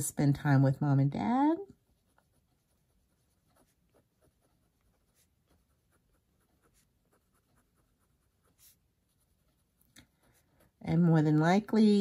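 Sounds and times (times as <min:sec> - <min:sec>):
pen scratching on paper: 0:01.6 - 0:11.4.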